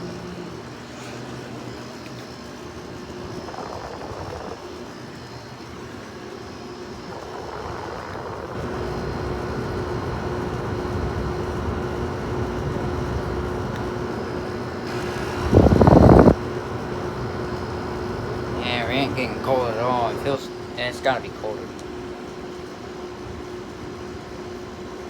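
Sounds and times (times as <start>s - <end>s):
air conditioner fan humming: 0.0s - 25.0s.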